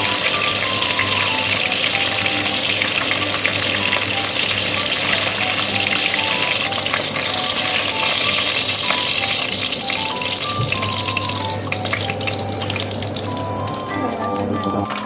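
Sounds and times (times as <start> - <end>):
faint background music: 0.0 - 15.0
food sizzling in hot oil: 0.0 - 15.0.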